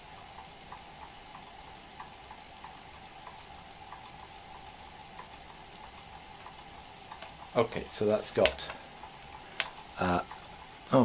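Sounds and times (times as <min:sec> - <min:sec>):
light ticking: 0:00.0 - 0:11.0.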